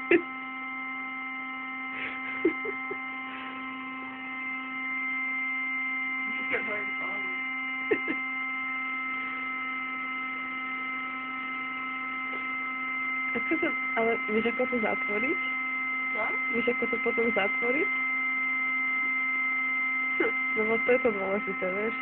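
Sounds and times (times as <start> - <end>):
electric air pump humming: 0.0 - 22.0.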